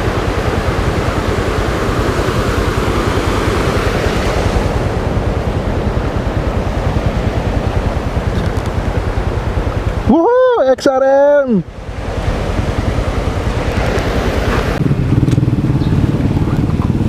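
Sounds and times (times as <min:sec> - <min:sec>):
rapid low pulsing: 0:00.0 - 0:10.3, 0:11.6 - 0:17.0
wind roaring over microphone: 0:00.0 - 0:17.0.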